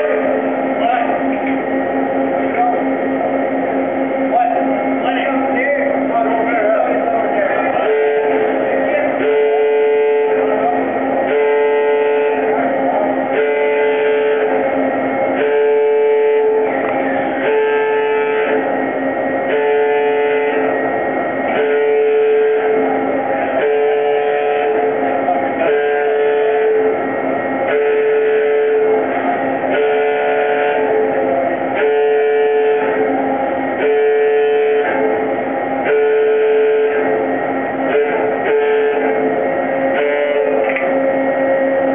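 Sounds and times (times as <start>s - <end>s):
machine warning alarm tone: 0.0s - 41.9s
steady machine hum: 0.0s - 41.9s.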